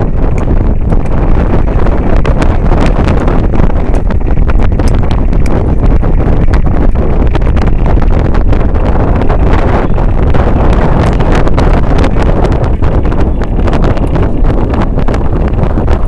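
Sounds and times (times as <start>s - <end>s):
sharp knocks and crackles: 0.0s - 16.0s
wind buffeting microphone: 0.0s - 16.0s.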